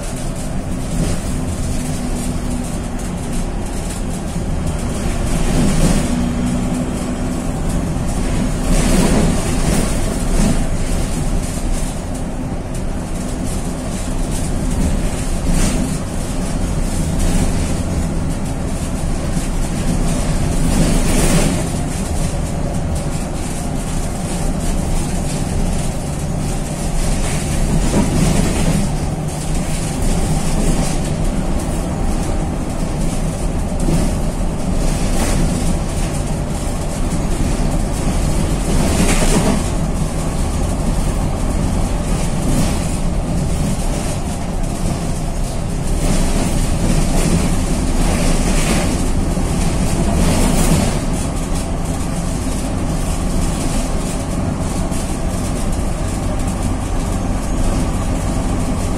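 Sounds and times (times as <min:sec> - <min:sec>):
bus body rattling: 0:00.0 - 0:58.9
bus diesel engine: 0:00.0 - 0:58.9
road noise: 0:00.0 - 0:58.9.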